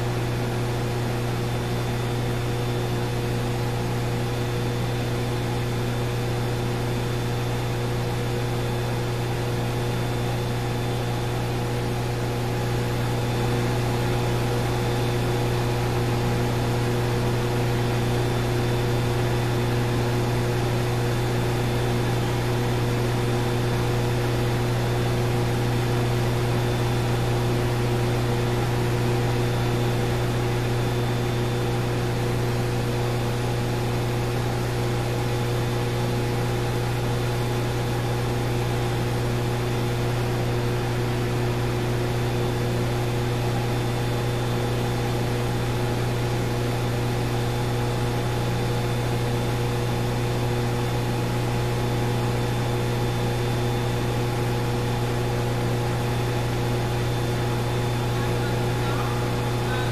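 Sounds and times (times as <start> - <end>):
generator electrical hum: 0.0 - 59.9.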